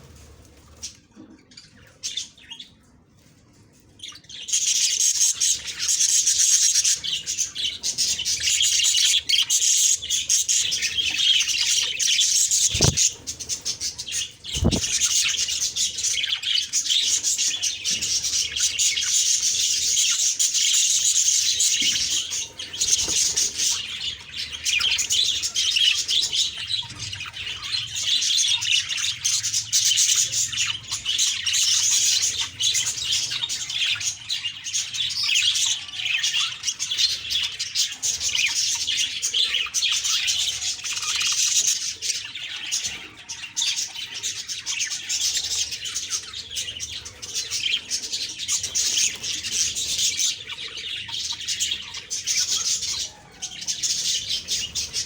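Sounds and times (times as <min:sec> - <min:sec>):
budgerigars chirping and chattering: 0:00.0 - 0:55.0.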